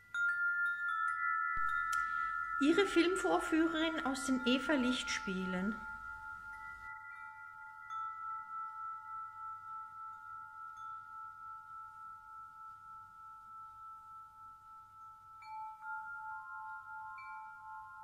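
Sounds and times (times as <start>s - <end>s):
slow chime tone music: 0.0s - 18.0s.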